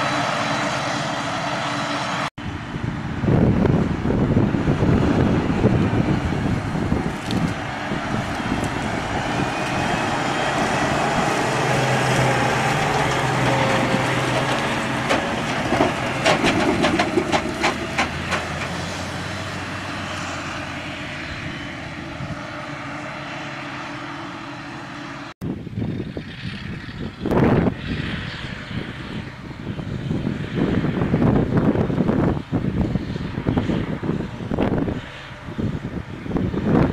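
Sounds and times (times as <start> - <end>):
forage harvester droning: 0.0 - 36.9.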